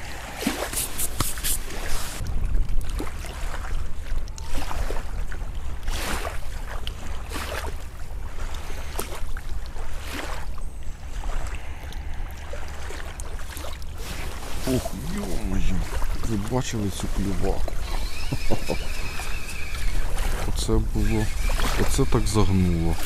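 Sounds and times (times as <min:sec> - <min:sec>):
wind rumbling on microphone: 0:00.0 - 0:10.0, 0:10.8 - 0:23.0
soft splash: 0:00.0 - 0:23.0
water lapping in small waves: 0:00.0 - 0:23.0.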